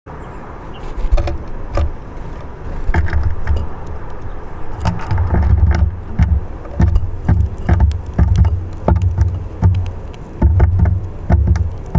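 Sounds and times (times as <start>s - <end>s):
wind buffeting microphone: 0.1s - 11.9s
birds pecking on wood: 0.4s - 11.9s.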